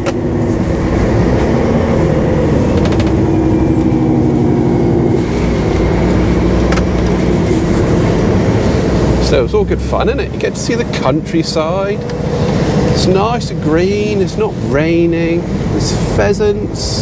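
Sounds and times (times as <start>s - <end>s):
diesel engine drone: 0.0s - 17.0s
road noise: 0.0s - 17.0s.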